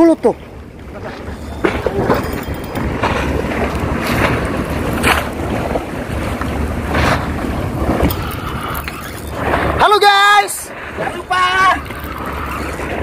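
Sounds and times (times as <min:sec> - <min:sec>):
water splashing against concrete: 0:00.0 - 0:13.0
wind buffeting microphone: 0:00.0 - 0:13.0.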